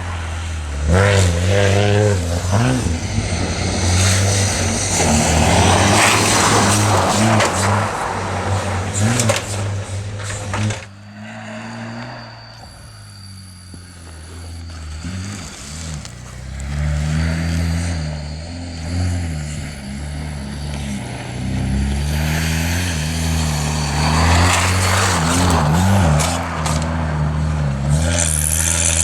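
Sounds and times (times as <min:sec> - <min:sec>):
engine revving hard: 0:00.0 - 0:29.0
tyre and spray noise: 0:00.1 - 0:29.0.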